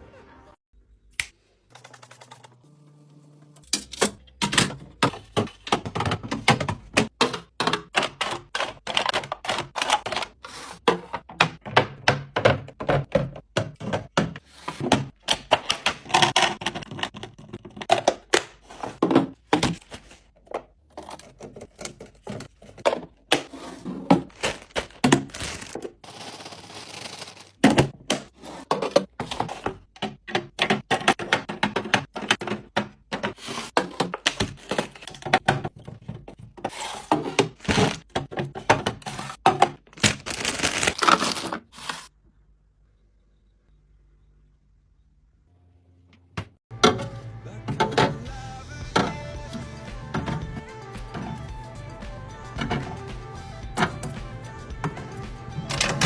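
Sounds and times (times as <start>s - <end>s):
food packages clacking and thunking: 3.7s - 42.1s, 46.4s - 56.0s.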